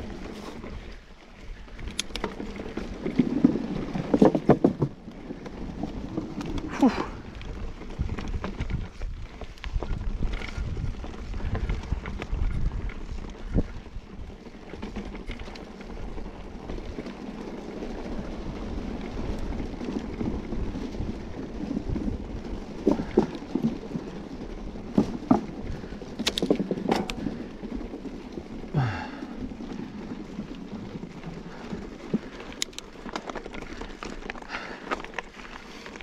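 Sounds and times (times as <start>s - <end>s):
bike knocking and rattling: 0.0s - 36.0s
bike tyres on dirt and stones: 0.0s - 36.0s.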